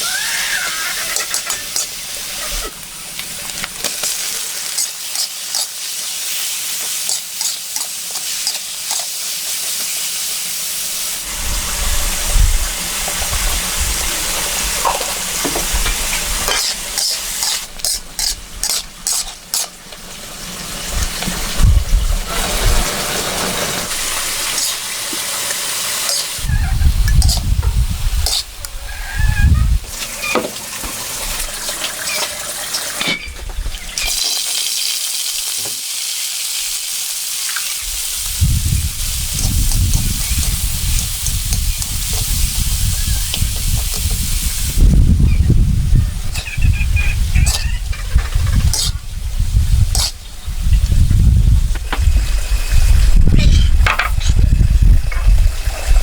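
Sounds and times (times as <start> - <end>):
food sizzling in a pan: 0.0 - 33.2, 33.8 - 51.0.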